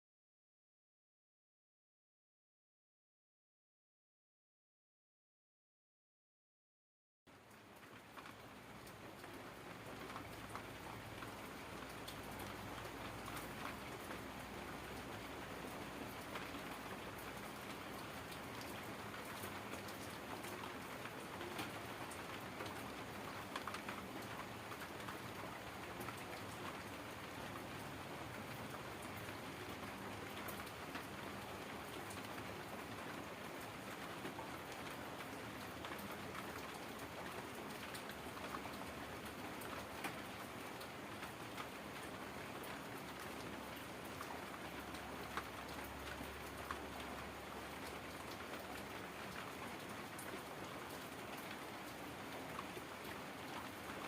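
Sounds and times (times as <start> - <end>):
raindrops ticking on surface: 7.3 - 54.0.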